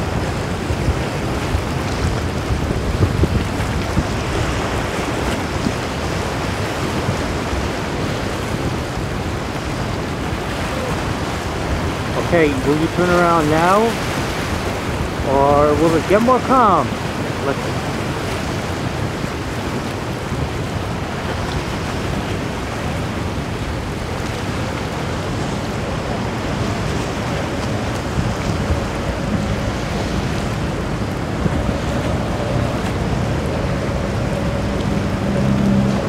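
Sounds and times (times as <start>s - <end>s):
motorboat engines droning: 0.0s - 36.0s
surf: 0.0s - 36.0s
wind on microphone: 0.0s - 36.0s.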